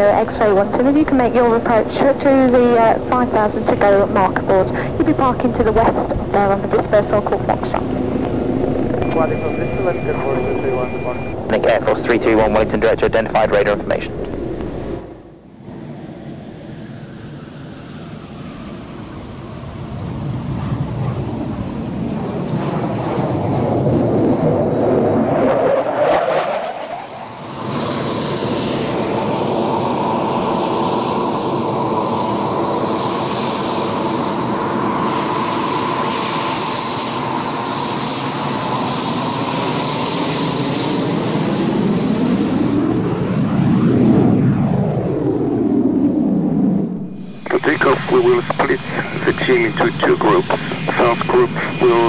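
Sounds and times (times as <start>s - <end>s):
jet engine with turbine whine: 0.0s - 52.0s.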